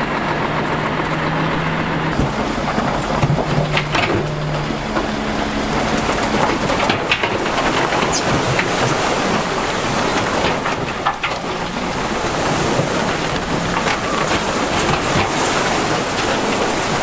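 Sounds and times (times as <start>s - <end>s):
bulldozer engine and tracks: 0.0s - 17.0s.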